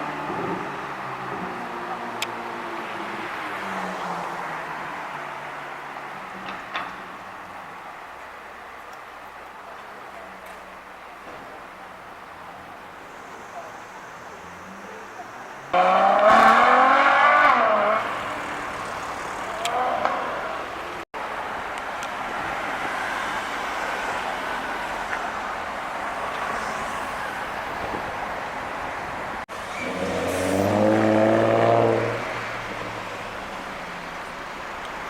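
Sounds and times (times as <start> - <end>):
street traffic noise: 0.0 - 35.0.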